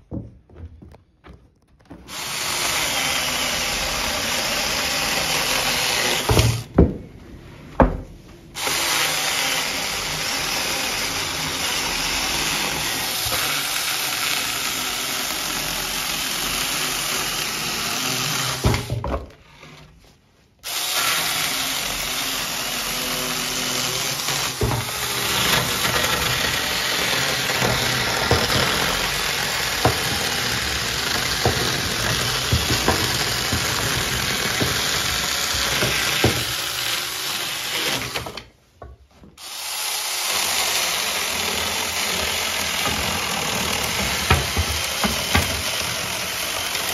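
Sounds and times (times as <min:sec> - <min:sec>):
electric chainsaw cutting wood: 0:01.8 - 0:06.8, 0:08.5 - 0:19.9, 0:20.6 - 0:38.6, 0:39.4 - 0:46.9.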